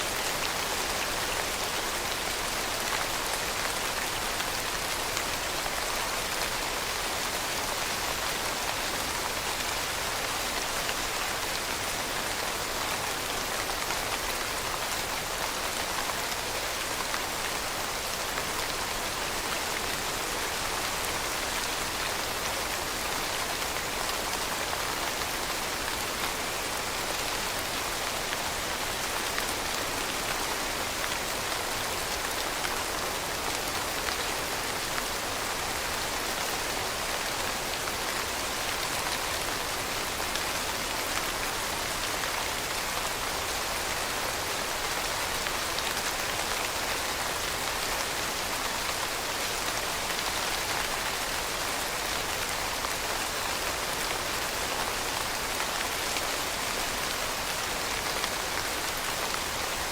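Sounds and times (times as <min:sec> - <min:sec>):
rain pattering on surface: 0:00.0 - 0:59.9.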